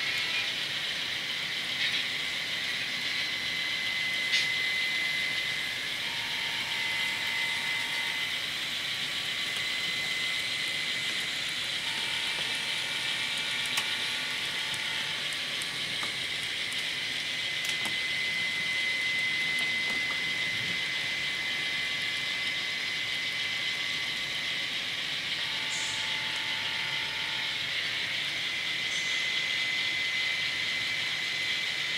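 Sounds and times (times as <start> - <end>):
model train motors whirring: 0.0 - 31.9
thin high whine: 0.0 - 31.9.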